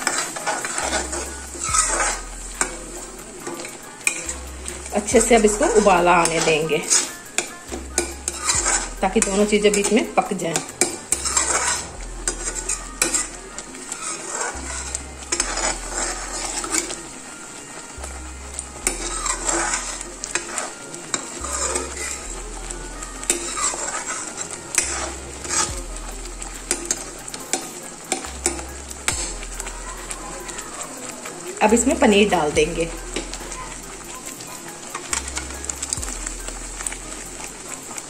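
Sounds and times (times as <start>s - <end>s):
gravy sizzling: 0.0s - 38.0s
metal spoon scraping pan: 0.0s - 38.0s.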